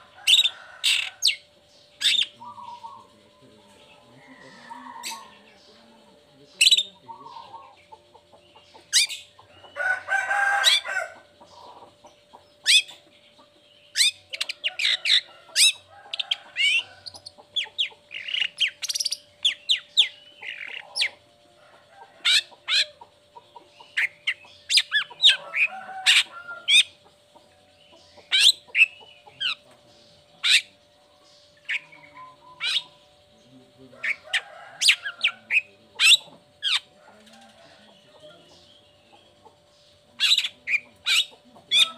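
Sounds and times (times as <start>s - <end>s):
harsh rasping bird calls: 0.0s - 41.9s.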